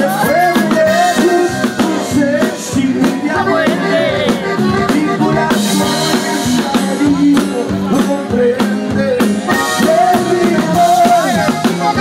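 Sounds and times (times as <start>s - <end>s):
drums: 0.0s - 12.0s
electric guitar: 0.0s - 12.0s
male lead singer: 0.0s - 12.0s.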